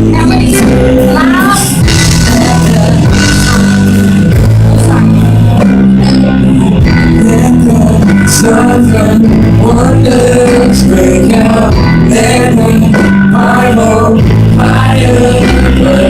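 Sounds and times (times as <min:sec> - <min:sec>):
instrumental band music: 0:00.0 - 0:16.0.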